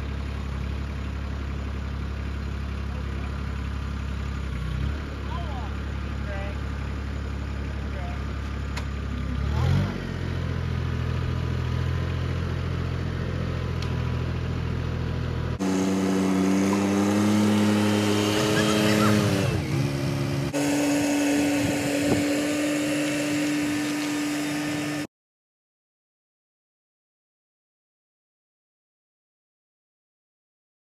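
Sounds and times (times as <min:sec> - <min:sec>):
tractor engine running: 0:00.0 - 0:25.1.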